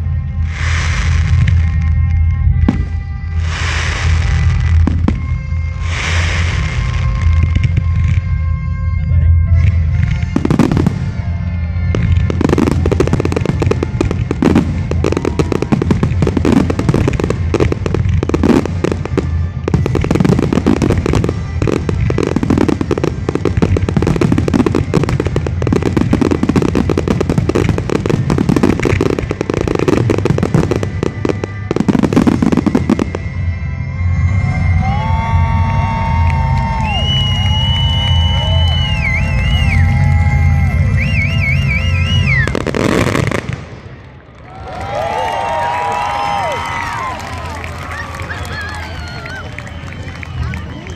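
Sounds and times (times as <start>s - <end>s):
fireworks bangs and booms: 0.4s - 8.6s, 9.4s - 33.6s, 35.1s - 44.3s.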